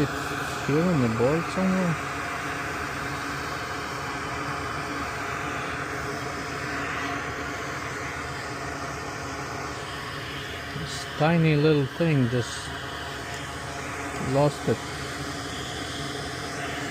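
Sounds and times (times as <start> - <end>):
machinery hum and hiss: 0.0 - 16.9.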